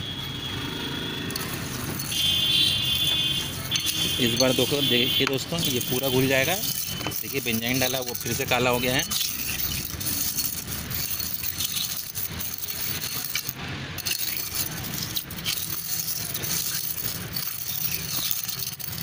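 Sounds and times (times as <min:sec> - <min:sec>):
stones rattling and scraping in bowl: 0:01.3 - 0:19.0.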